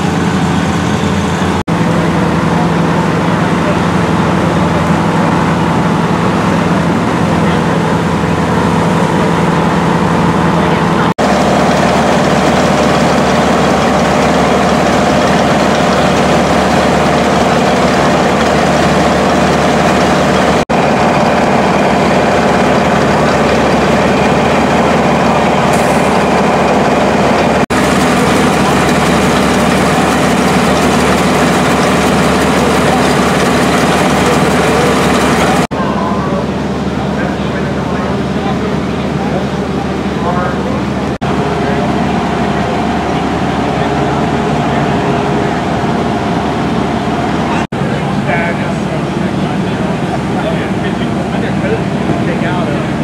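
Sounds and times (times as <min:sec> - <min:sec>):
fire engine pumps running: 0:00.0 - 0:53.0.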